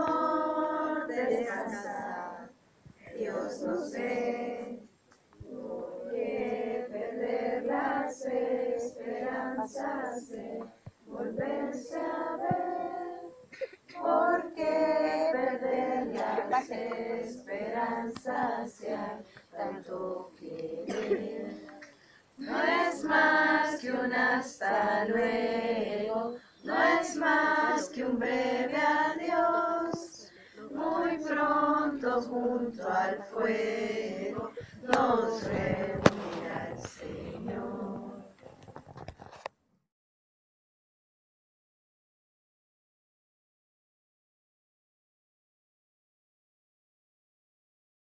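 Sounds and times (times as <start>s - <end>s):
group singing unaccompanied: 0.0s - 38.5s.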